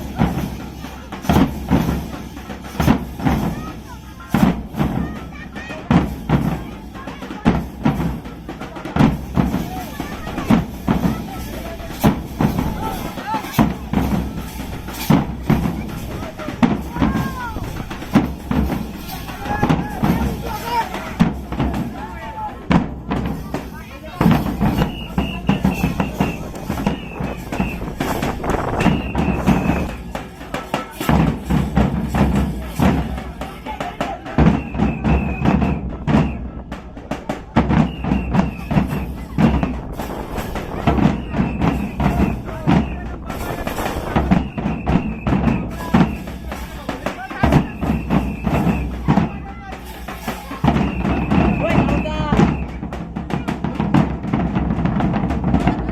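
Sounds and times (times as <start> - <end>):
barrel drum beaten with sticks: 0.0 - 55.9.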